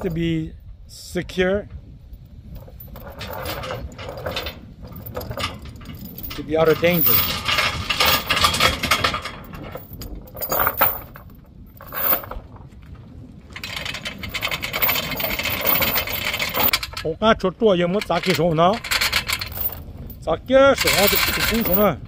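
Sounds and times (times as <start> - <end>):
chains clinking and scraping: 0.0 - 0.3, 2.1 - 12.6, 13.5 - 17.1, 18.0 - 22.0.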